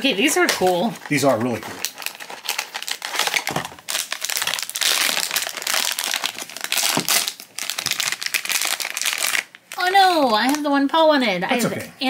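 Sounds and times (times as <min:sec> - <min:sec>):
foil bag crinkling: 0:00.4 - 0:10.7.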